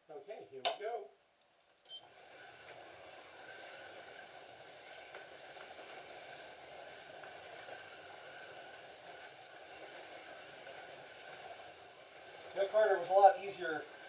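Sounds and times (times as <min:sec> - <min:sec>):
slot car motors whirring: 0:02.0 - 0:14.0
wheels hissing on plastic track: 0:02.0 - 0:14.0.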